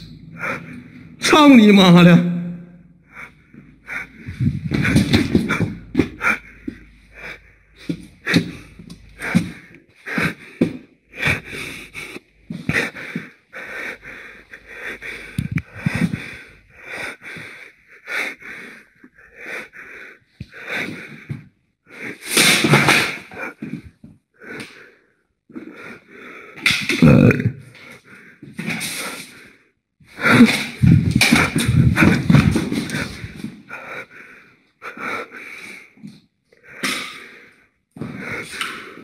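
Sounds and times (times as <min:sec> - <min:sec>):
heavy rapid breathing: 0:00.0 - 0:01.2, 0:03.0 - 0:26.8, 0:27.6 - 0:39.0.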